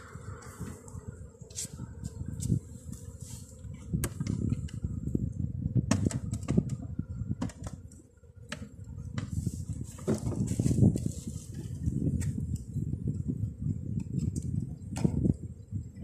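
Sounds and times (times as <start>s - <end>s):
honeybees humming: 0.0s - 16.0s.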